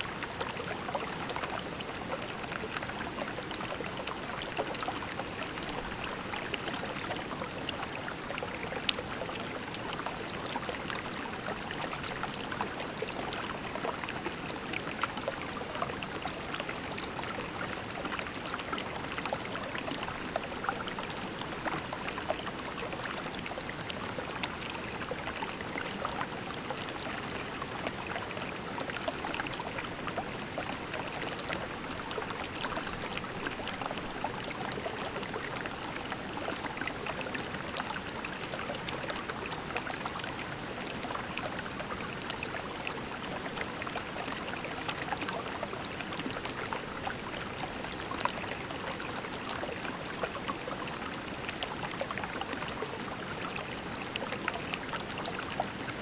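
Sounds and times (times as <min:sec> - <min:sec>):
creek water babbling over pebbles: 0:00.0 - 0:56.0.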